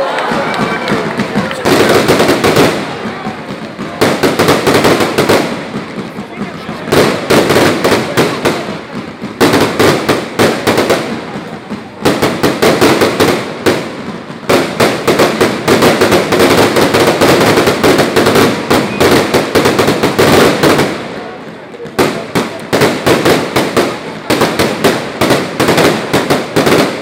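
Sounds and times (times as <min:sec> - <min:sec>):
fireworks crackling bangs: 0:00.0 - 0:27.0.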